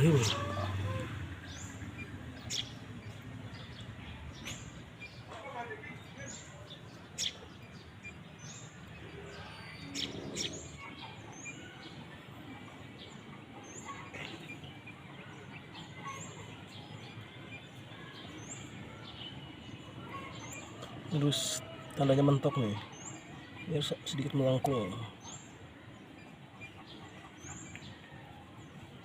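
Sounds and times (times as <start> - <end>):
bird high rising chirp: 0.0 - 29.0
outdoor background noise: 0.0 - 29.0.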